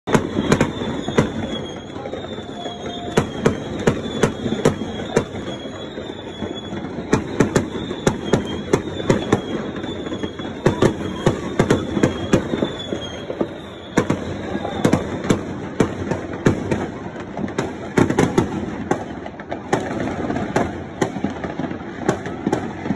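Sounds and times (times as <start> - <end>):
distant fireworks din: 0.0 - 22.9
sharp firework bangs: 0.1 - 22.9.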